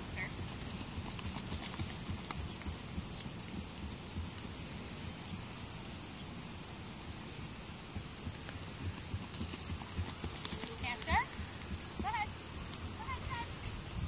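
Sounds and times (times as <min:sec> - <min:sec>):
horse hooves cantering on grass: 0:00.0 - 0:14.0
insects buzzing: 0:00.0 - 0:14.0.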